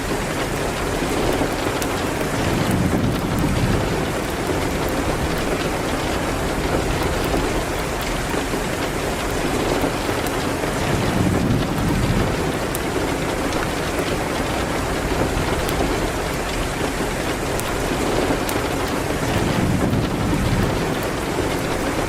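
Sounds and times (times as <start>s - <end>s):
heavy rain on a window: 0.0s - 22.0s.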